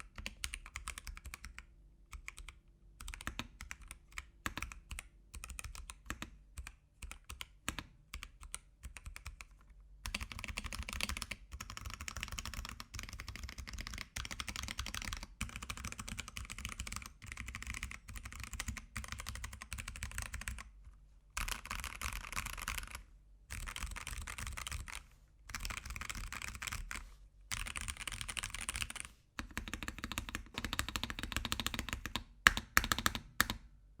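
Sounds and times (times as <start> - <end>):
mechanical keyboard typing: 0.0 - 20.8, 21.4 - 33.7.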